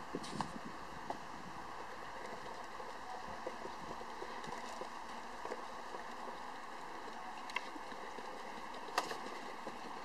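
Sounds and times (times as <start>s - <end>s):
muffled hoofbeats on sand: 0.0s - 10.0s
steady background hum: 0.0s - 10.0s.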